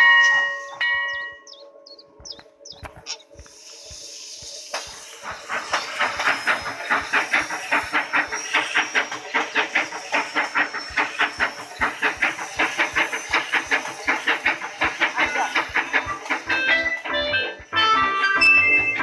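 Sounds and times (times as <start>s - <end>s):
steam train chugging: 0.0s - 19.0s.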